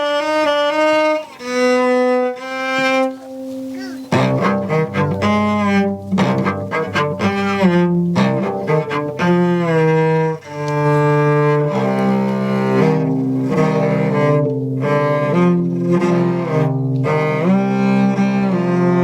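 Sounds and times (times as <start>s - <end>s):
bowed strings playing slow tune: 0.0s - 19.0s.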